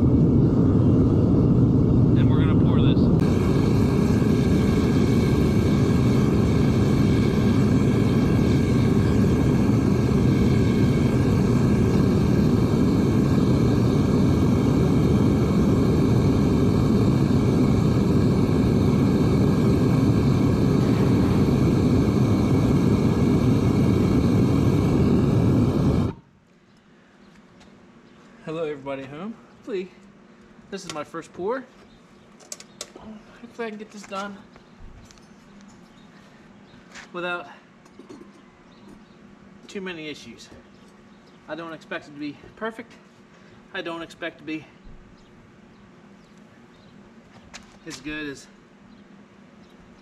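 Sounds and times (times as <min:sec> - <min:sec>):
furnace burner roaring: 0:00.0 - 0:27.5, 0:28.3 - 0:49.0.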